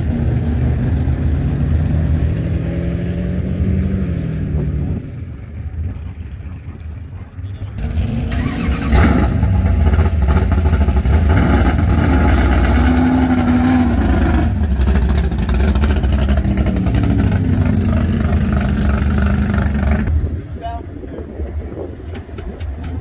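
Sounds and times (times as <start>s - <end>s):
car engine rolling past: 0.0s - 20.5s.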